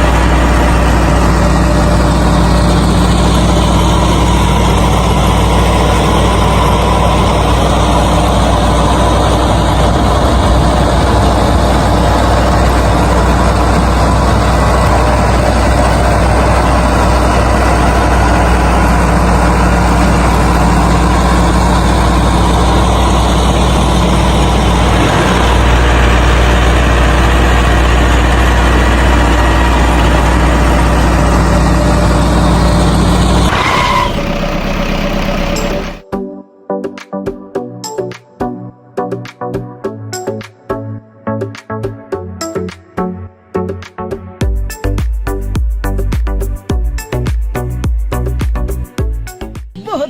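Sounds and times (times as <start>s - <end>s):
engine running steadily: 0.0s - 36.0s, 44.4s - 49.0s.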